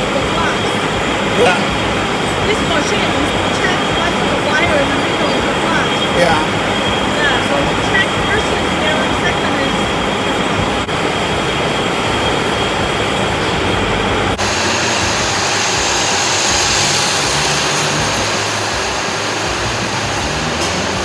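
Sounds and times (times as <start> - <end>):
factory machinery running: 0.0 - 21.0.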